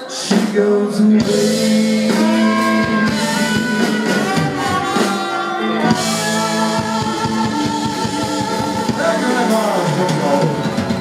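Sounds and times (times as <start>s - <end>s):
band playing a soul ballad: 0.0s - 11.0s
person singing: 0.0s - 11.0s.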